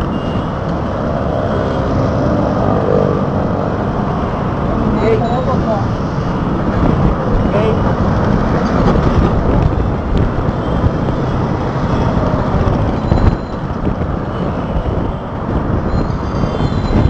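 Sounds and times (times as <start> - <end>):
road noise from moving vehicle: 0.0 - 17.0.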